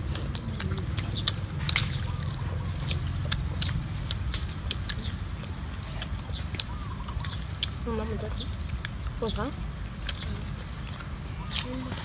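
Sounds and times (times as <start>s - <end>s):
low steady rumble: 0.0s - 12.0s
people chewing cake: 0.0s - 12.0s.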